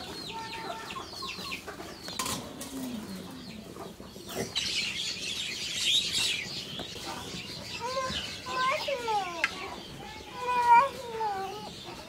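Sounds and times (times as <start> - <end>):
chickens clucking: 0.0 - 12.0
small birds chirping: 0.0 - 12.0.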